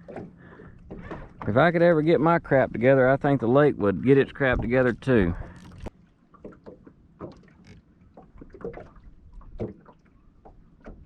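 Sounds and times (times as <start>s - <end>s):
faint knocks and clicks in boat: 0.0s - 11.0s.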